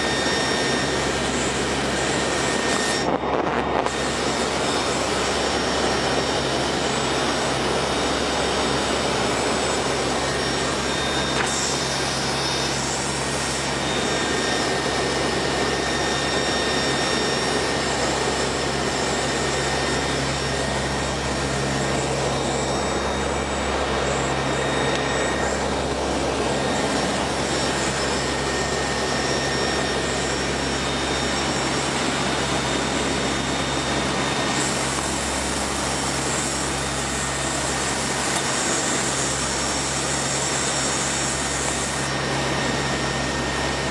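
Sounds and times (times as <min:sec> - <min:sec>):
aircraft engines droning: 0:00.0 - 0:43.9.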